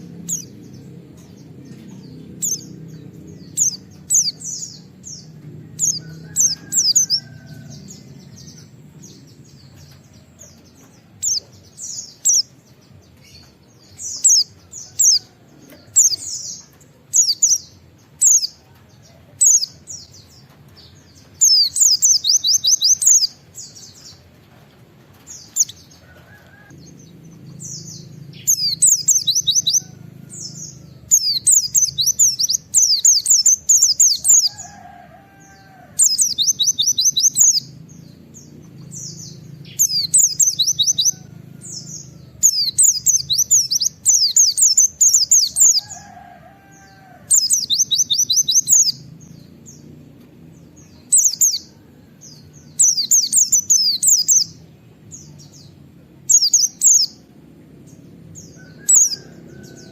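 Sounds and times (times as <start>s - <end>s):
white-eye bird singing: 0.0s - 24.3s, 25.1s - 59.9s.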